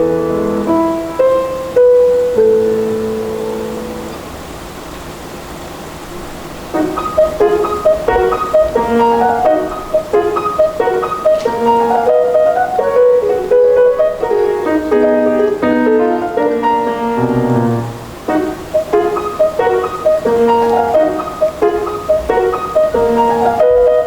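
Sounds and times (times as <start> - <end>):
solo piano: 0.0 - 24.0.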